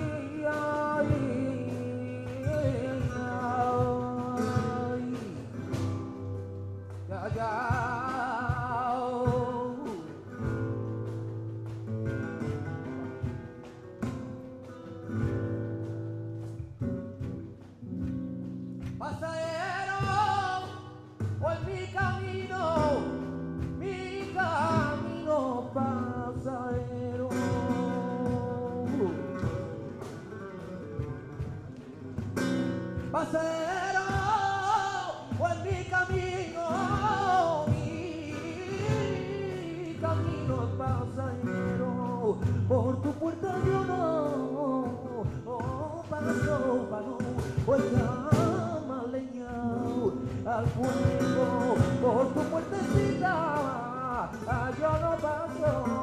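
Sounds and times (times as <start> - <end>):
flamenco guitar: 0.0 - 56.0
man singing flamenco: 0.0 - 56.0.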